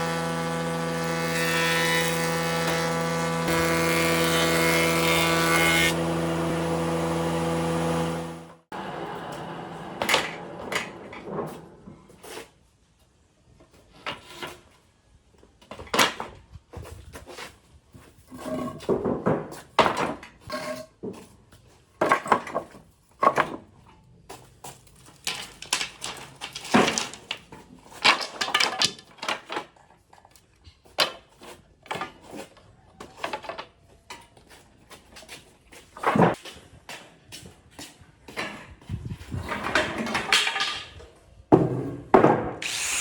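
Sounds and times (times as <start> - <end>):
wood and tools clattering: 0.0 - 8.4, 10.0 - 12.6, 15.6 - 43.0.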